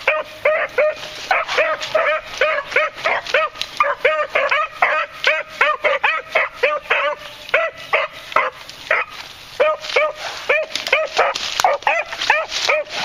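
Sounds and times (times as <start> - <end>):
beagle baying: 0.0 - 13.0.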